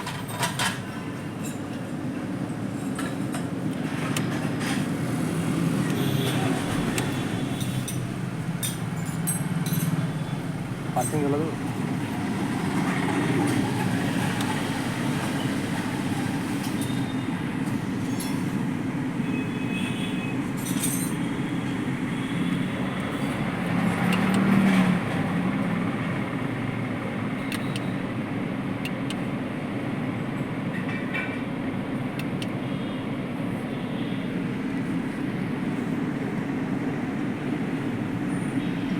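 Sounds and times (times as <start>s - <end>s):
moving vehicle rumble: 0.0s - 38.9s.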